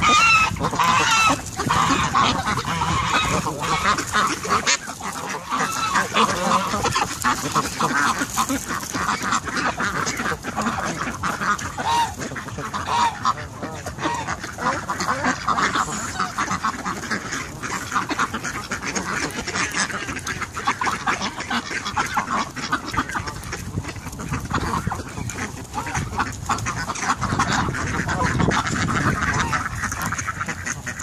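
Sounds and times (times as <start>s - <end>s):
ducks quacking: 0.0s - 31.0s
geese honking: 0.0s - 31.0s.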